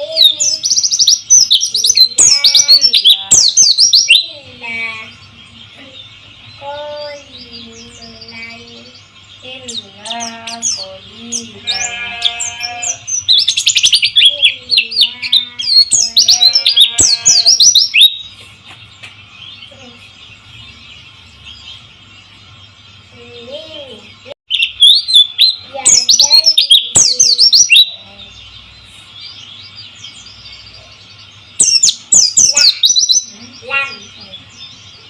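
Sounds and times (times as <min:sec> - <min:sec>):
bird song high chirps: 0:00.0 - 0:35.0.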